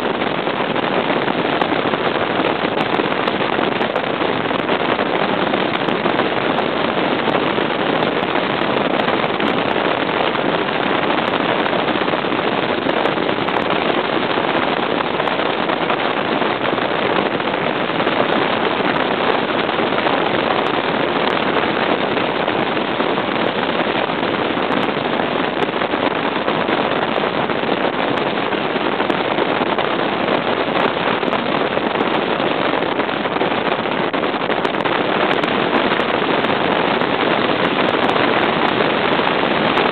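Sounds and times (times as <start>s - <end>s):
boat engine running: 0.0s - 39.9s
water rushing: 0.0s - 39.9s
wind buffeting microphone: 0.0s - 39.9s.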